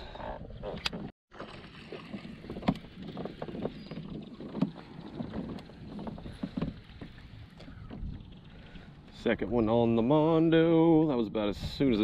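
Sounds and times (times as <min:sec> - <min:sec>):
waves lapping against kayak hull: 0:00.0 - 0:10.7
wind: 0:00.0 - 0:12.0.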